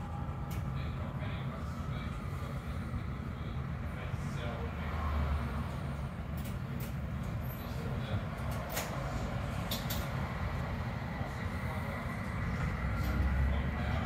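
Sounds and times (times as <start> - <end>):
tram running rumble: 0.0 - 14.0.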